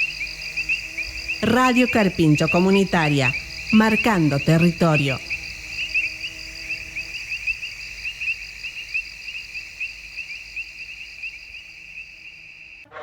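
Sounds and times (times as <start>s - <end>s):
crickets chirping: 0.0s - 12.9s.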